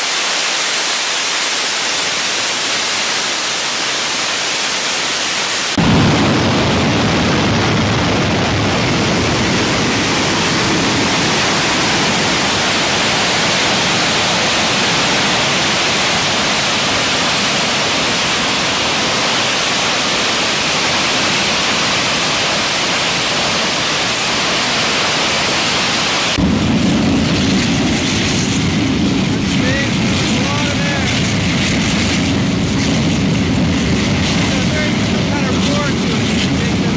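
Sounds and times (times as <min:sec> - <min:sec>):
gas turbine rushing noise: 0:00.0 - 0:36.9.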